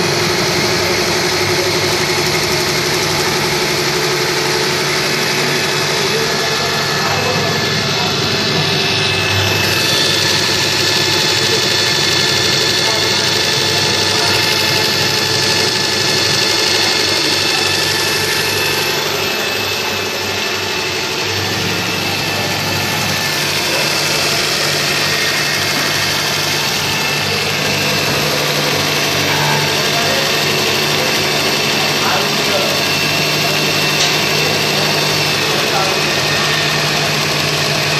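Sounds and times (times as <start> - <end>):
machine droning: 0.0 - 37.9.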